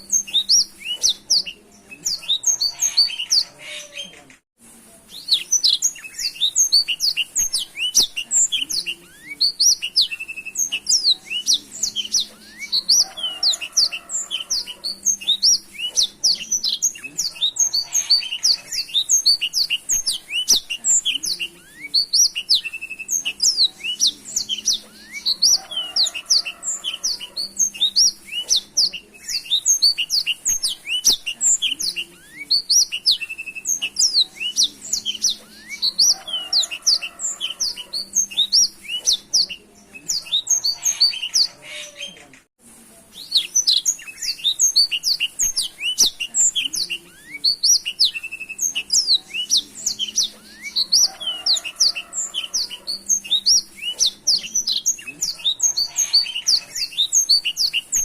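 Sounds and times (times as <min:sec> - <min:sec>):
canary singing rapid twittering song: 0:00.0 - 0:04.2, 0:05.1 - 0:42.2, 0:43.1 - 0:58.0.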